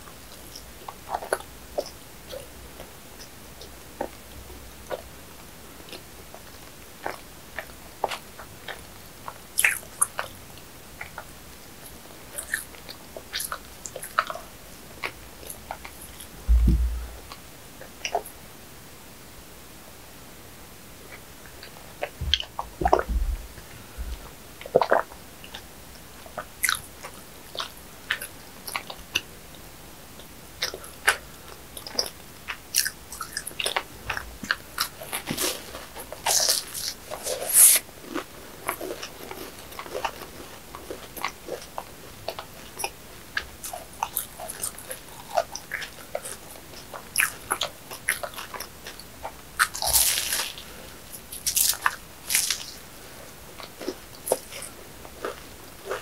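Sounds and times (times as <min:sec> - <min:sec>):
chewing: 0:00.3 - 0:05.1, 0:05.8 - 0:18.3, 0:21.1 - 0:29.3, 0:30.2 - 0:56.0.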